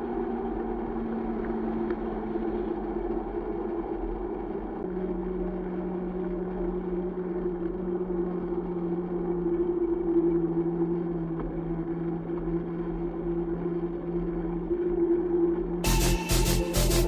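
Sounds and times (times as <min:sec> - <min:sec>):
muffled wind and tyre rumble: 0:00.0 - 0:15.8
low hum: 0:00.0 - 0:17.0.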